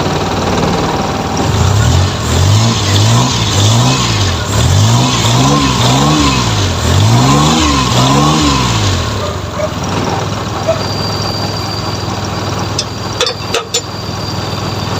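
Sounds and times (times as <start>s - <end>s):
car engine revving in blips: 0.0s - 12.8s.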